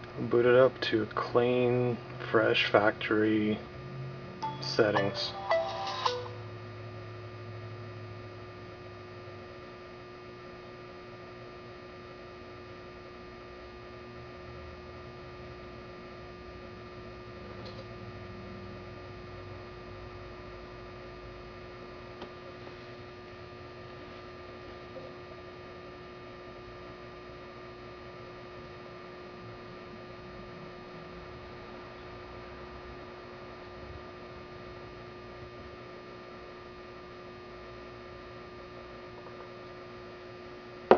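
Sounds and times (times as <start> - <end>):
electrical hum with tones: 0.0 - 40.9.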